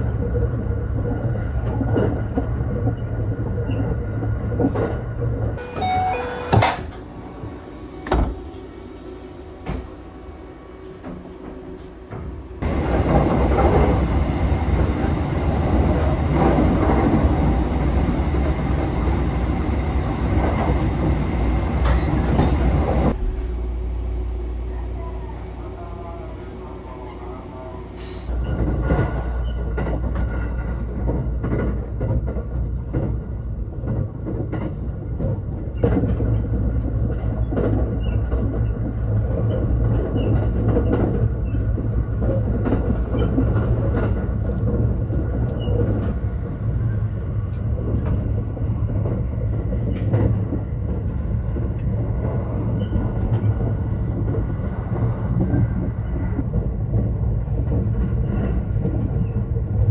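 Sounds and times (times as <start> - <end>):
train rumble inside passenger car: 0.0 - 59.9.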